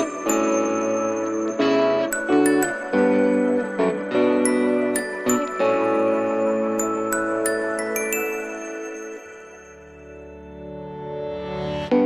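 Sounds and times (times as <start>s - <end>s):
light music with bell-like tinkles: 0.0s - 11.0s.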